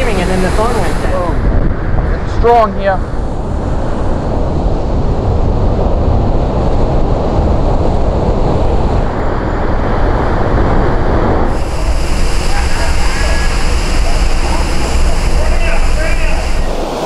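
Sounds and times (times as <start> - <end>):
strong wind rushing: 0.0 - 17.0
wind buffeting microphone: 0.0 - 17.0.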